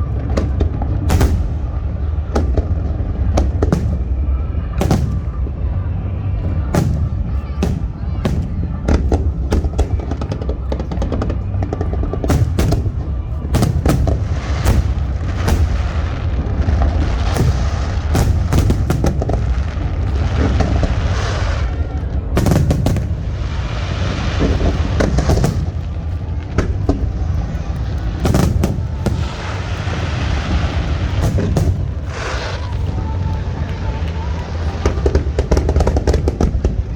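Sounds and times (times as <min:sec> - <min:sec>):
fireworks bursting with sharp bangs: 0:00.0 - 0:36.9
low rumble: 0:00.0 - 0:36.9.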